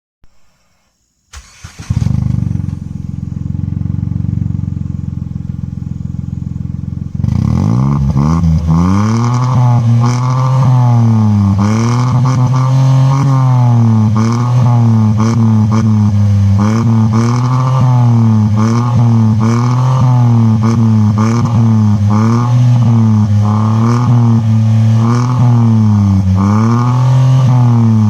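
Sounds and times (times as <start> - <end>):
car engine starting and idling: 1.0 - 28.0
car engine revving: 1.3 - 28.0.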